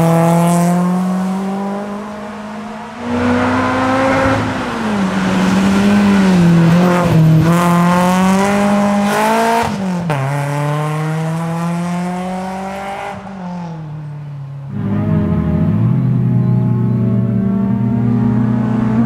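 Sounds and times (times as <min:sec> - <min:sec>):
race car engine passing: 0:00.0 - 0:19.0.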